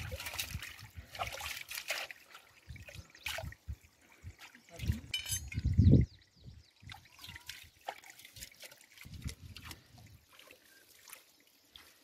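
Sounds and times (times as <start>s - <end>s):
water trickling in stream: 0.0s - 12.0s.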